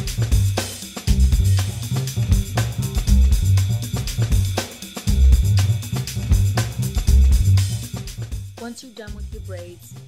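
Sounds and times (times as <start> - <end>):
band music with drums bass guitar: 0.0 - 8.6.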